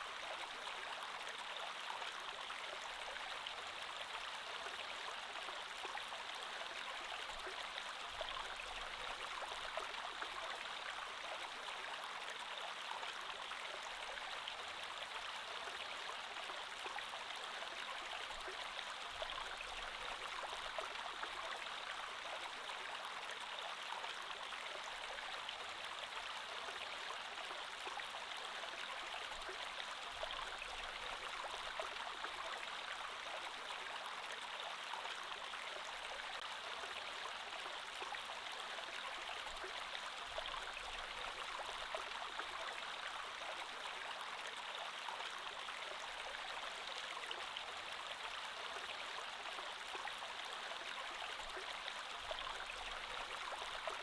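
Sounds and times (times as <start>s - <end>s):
creek water flowing over stones: 0.0s - 54.0s.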